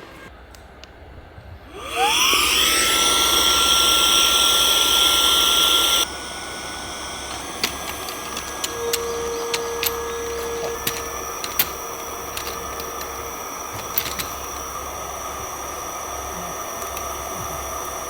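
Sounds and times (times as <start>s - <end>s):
electric air pump whining: 1.5s - 18.0s.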